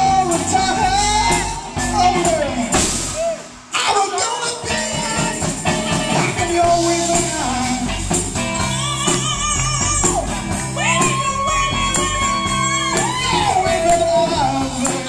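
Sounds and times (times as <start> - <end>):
drum kit beat: 0.0 - 15.0
electric guitar: 0.0 - 15.0
people singing: 0.0 - 15.0.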